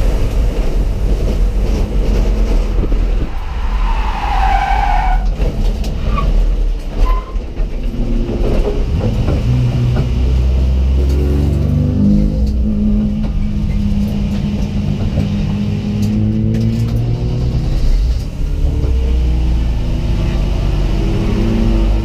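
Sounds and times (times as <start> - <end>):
race car engine: 0.0 - 22.0
road noise: 0.0 - 22.0.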